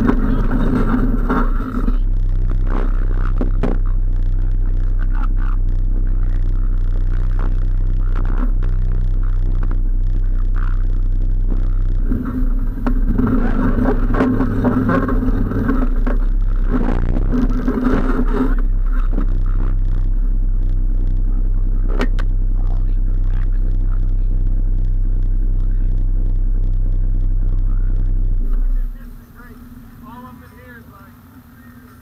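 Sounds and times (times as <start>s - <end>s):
louder engine running: 0.0s - 32.0s
vehicle engine idling: 0.0s - 32.0s.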